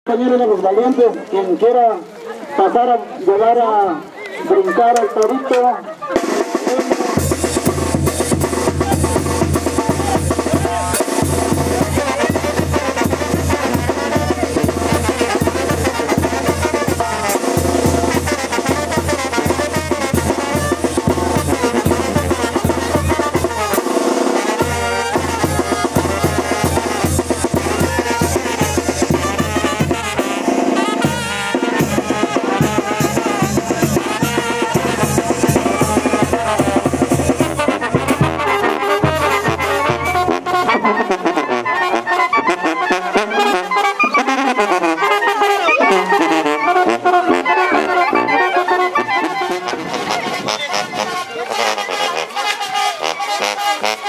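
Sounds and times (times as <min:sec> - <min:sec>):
band music: 0:04.3 - 0:54.0
bass drum and snare beat: 0:06.1 - 0:54.0.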